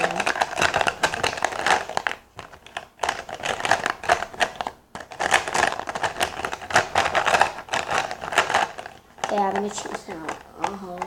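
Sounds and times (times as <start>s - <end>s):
plastic markers rattling in container: 0.0s - 11.0s.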